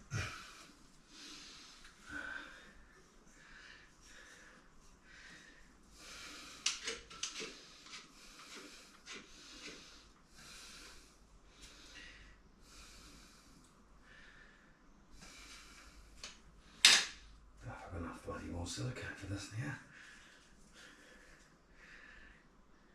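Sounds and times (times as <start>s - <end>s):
person breathing: 0.0s - 16.9s, 19.8s - 22.9s.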